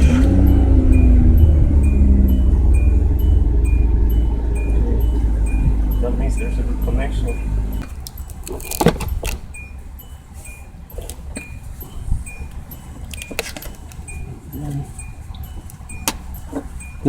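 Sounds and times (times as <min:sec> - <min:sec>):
car warning chime beeping: 0:00.0 - 0:17.0
low steady rumble: 0:00.0 - 0:17.0.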